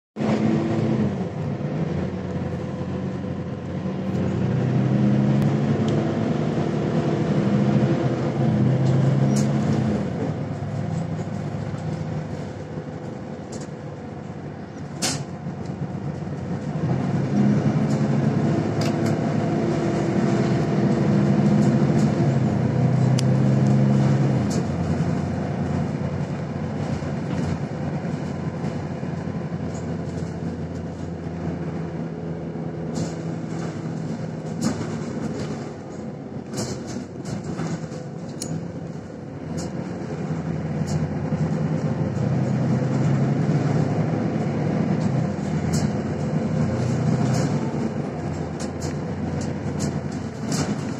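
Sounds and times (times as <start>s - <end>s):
bus engine running: 0.0s - 50.9s.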